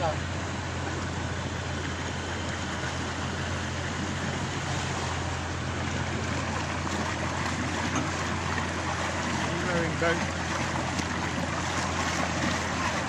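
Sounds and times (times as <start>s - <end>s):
motorboat engine humming: 0.0s - 13.0s
water washing along hull: 0.0s - 13.0s.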